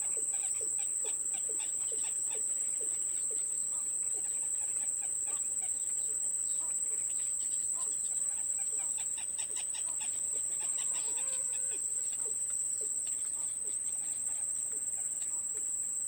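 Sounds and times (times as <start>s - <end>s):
faint bird chirps: 0.0s - 16.0s
insects droning: 0.0s - 16.0s.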